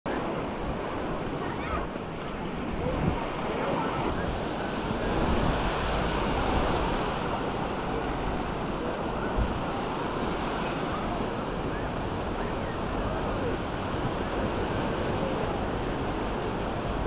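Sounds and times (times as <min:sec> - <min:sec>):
faint voices: 0:00.1 - 0:17.0
waves breaking on a beach: 0:00.1 - 0:17.0
wind buffeting microphone: 0:00.1 - 0:17.0.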